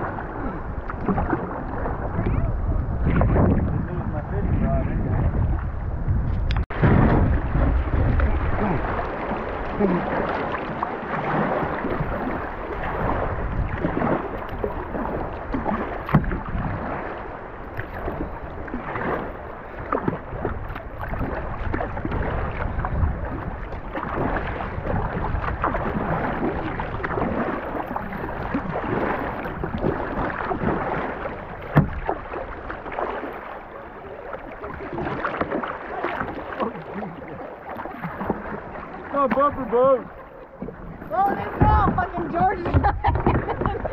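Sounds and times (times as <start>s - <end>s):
paddle strokes in water: 0.0s - 43.9s
water splashing against hull: 0.0s - 43.9s
wind rumble on microphone: 0.0s - 43.9s.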